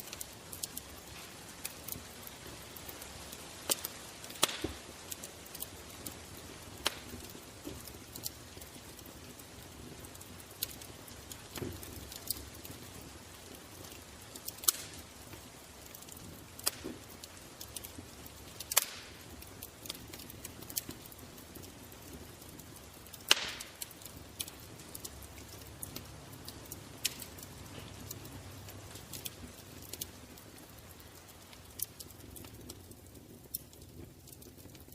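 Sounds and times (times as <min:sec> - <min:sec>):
fire crackling: 0:00.0 - 0:34.9.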